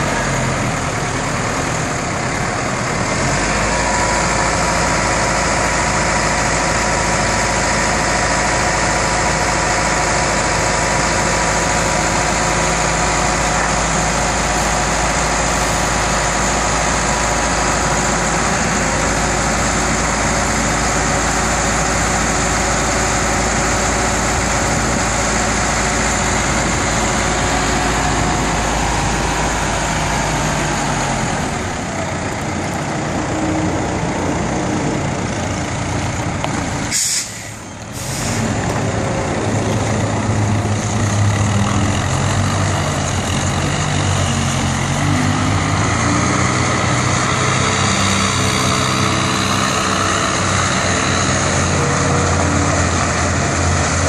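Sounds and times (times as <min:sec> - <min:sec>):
telehandler engine running: 0:00.0 - 0:54.0.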